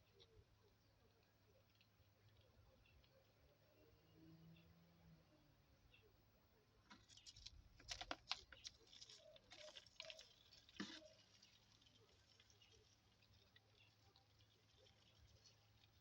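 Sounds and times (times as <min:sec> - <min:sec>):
faint scratching and clicking: 0:00.0 - 0:03.8, 0:06.8 - 0:16.0.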